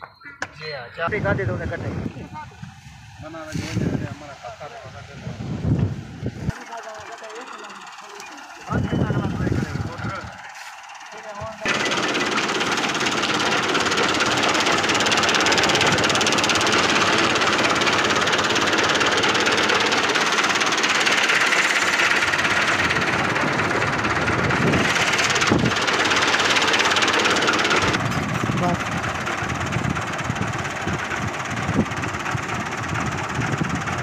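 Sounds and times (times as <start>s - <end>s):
tractor diesel engine running: 1.1s - 34.0s
thresher mechanical din: 6.5s - 34.0s.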